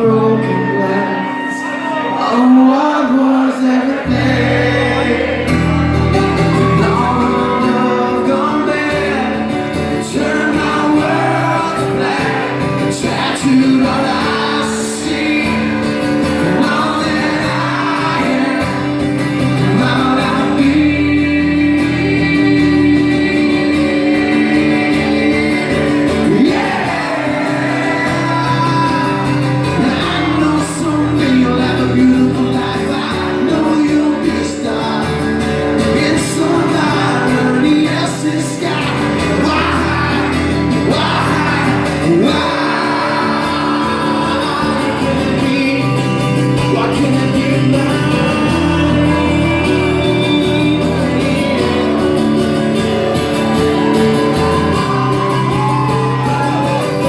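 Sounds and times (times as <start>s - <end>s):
person singing wordless vocals: 0.0s - 52.4s
guitar accompaniment: 0.0s - 57.0s.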